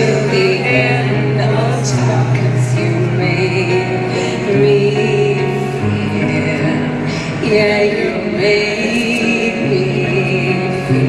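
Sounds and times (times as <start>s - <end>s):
live pop music with singing: 0.0s - 11.0s.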